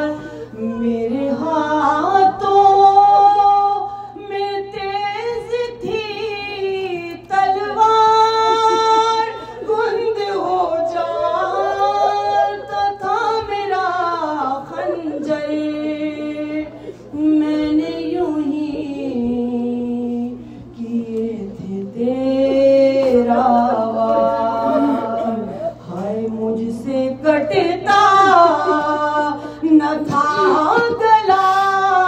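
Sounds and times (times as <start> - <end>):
person singing unaccompanied: 0.0 - 32.0.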